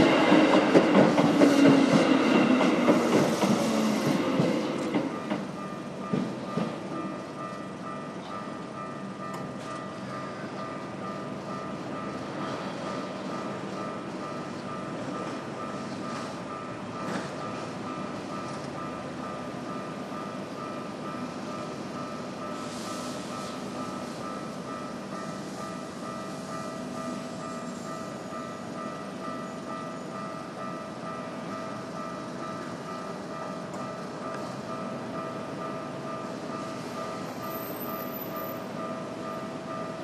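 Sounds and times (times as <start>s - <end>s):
passing train: 0.0s - 40.0s.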